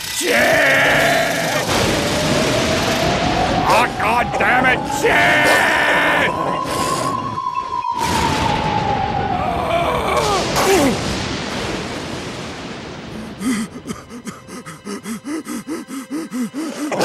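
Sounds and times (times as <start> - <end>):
rushing noise: 0.0 - 17.0.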